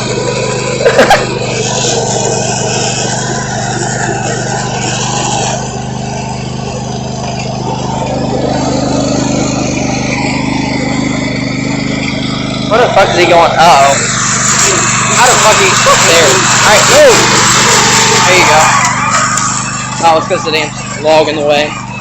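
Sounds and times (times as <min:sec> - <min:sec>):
riding lawn mower engine: 0:00.0 - 0:22.0.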